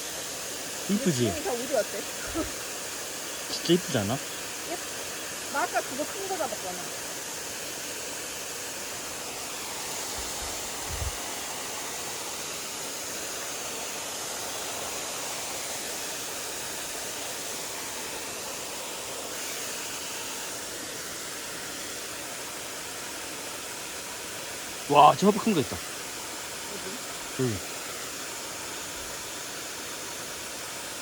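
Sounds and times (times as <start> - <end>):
stream water rushing over rocks: 0.0 - 31.0.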